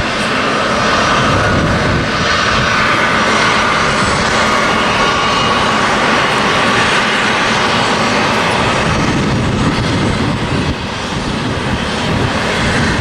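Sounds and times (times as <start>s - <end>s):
high jet engine whine: 0.0s - 13.0s
jet engines roaring: 0.0s - 13.0s.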